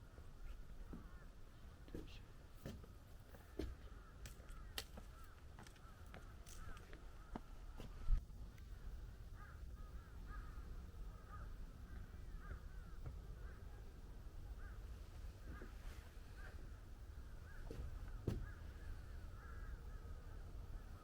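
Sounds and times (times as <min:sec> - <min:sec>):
low wind rumble: 0:00.0 - 0:21.0
birds calling: 0:00.4 - 0:21.0.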